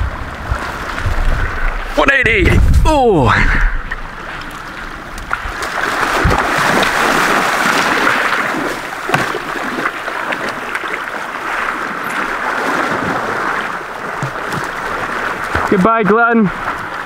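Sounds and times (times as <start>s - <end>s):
seawater splashing: 0.0s - 17.0s.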